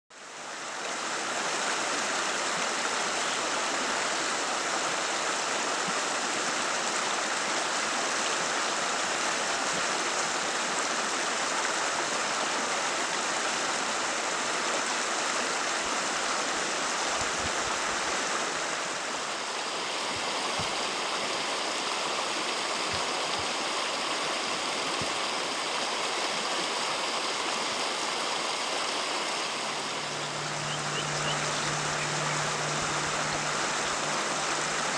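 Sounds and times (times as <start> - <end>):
rocky stream rushing: 0.1 - 34.9.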